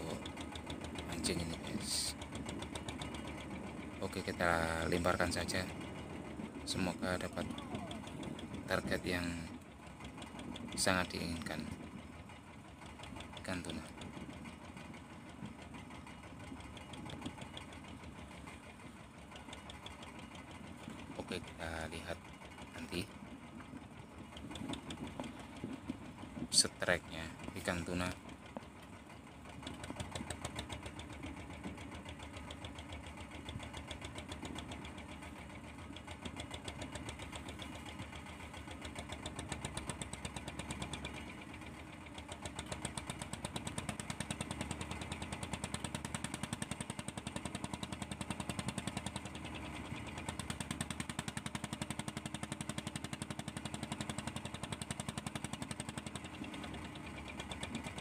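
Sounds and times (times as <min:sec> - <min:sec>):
boat engine idling: 0:00.0 - 0:58.0.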